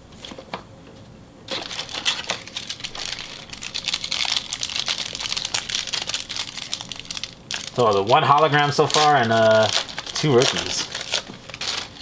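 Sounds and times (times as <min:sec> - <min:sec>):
wrapper crinkling and tearing: 0:01.5 - 0:12.0.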